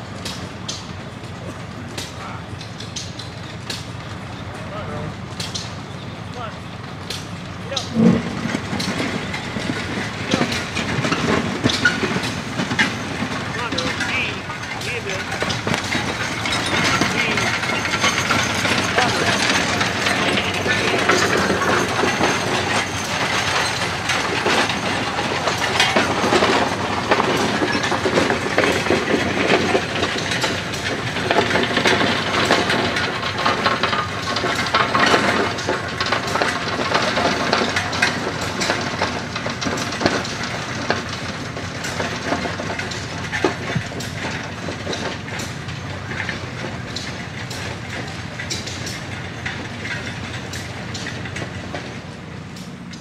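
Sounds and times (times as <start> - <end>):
road grader clattering: 0.0 - 53.0
chains clanking: 7.7 - 52.0.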